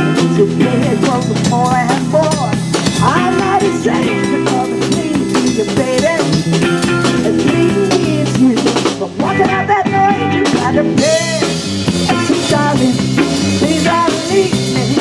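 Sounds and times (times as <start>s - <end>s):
soul band playing: 0.0s - 15.0s.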